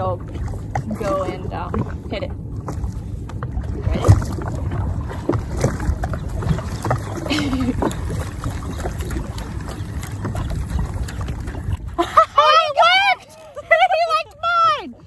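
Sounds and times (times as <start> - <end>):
wind buffeting microphone: 0.0 - 13.1
jet ski engine rumble: 0.0 - 15.0
water slapping against hull: 0.0 - 15.0.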